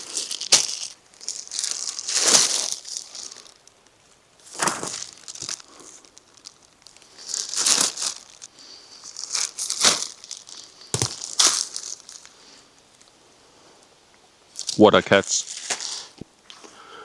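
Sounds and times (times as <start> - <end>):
crisp crackling rustles: 0.0 - 13.2, 15.4 - 16.2.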